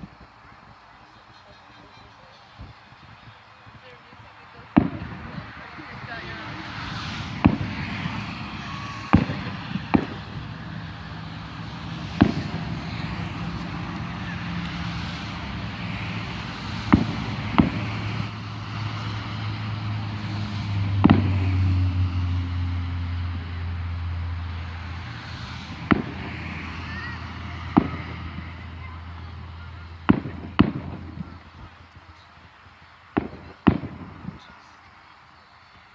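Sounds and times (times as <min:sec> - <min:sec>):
fireworks bangs: 0:00.0 - 0:35.9.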